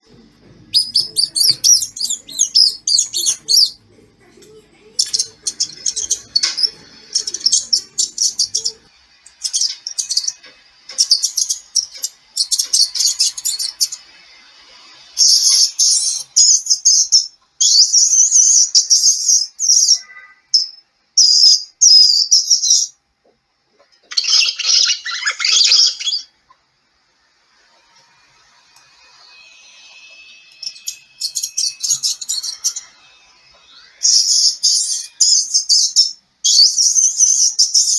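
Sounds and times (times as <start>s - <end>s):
mouse squeaking: 0.6s - 3.9s, 5.0s - 14.1s, 15.2s - 23.0s, 24.0s - 26.4s, 28.9s - 37.9s.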